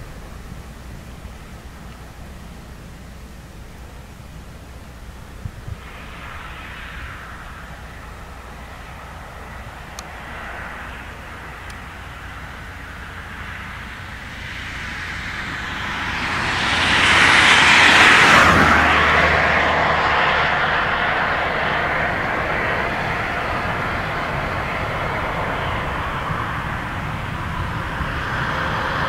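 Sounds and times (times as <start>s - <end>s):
vehicle passing by: 5.7s - 29.0s.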